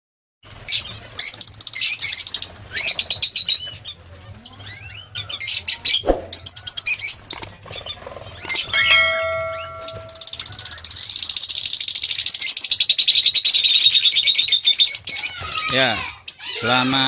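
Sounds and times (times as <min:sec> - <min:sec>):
lovebirds chattering shrill chirps: 0:00.4 - 0:17.0.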